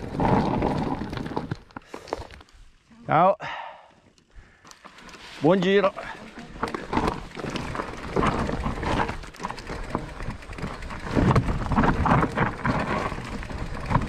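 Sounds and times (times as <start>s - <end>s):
bike knocking and rattling: 0.0s - 2.5s, 4.6s - 14.0s
tyres crunching over stones: 0.0s - 2.6s, 4.7s - 14.0s.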